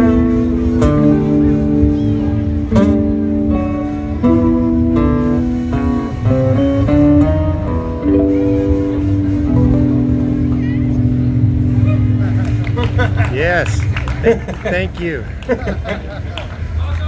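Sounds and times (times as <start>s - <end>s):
acoustic guitar strumming: 0.0s - 14.3s.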